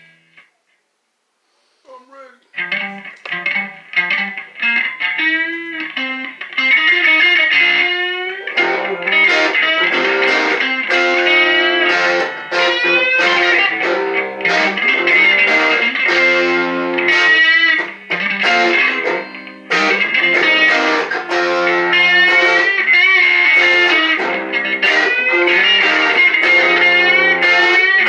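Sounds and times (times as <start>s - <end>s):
electric guitar solo: 2.5s - 28.0s.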